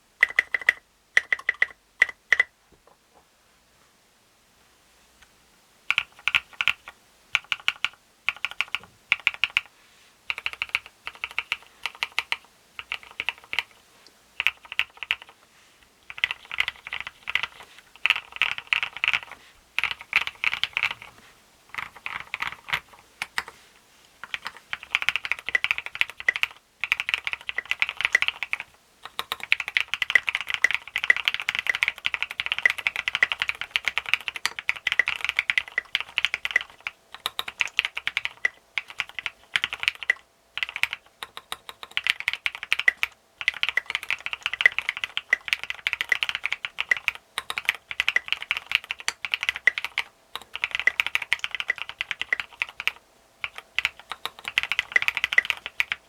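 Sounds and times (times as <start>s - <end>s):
mechanical keyboard typing: 0.2s - 2.6s, 5.9s - 9.7s, 10.3s - 13.8s, 14.4s - 15.4s, 16.1s - 21.1s, 21.7s - 23.5s, 24.2s - 56.0s.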